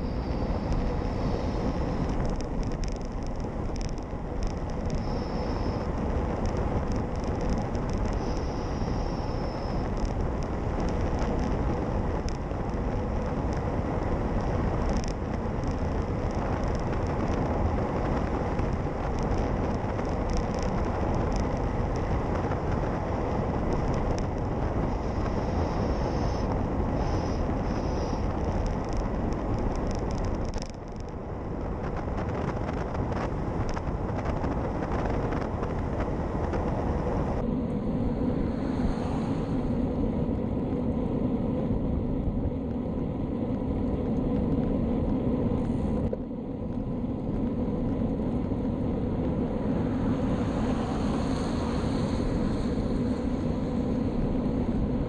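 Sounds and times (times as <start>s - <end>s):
wind rush on camera microphone: 0.0s - 55.0s.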